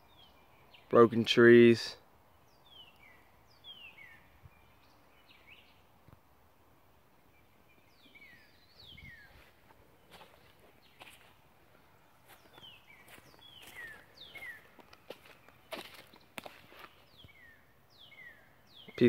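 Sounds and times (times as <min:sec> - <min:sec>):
faint bird chirps: 0:02.3 - 0:06.0, 0:07.2 - 0:19.0.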